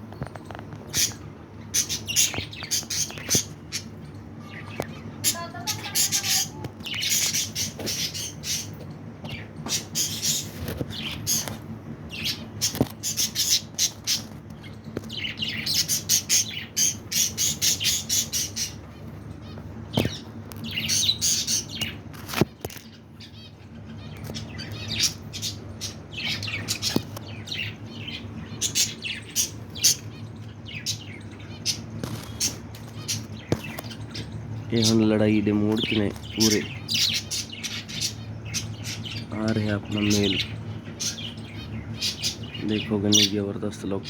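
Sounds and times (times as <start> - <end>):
birds chattering and squawking: 0.0 - 44.0
low steady hum: 0.0 - 44.0.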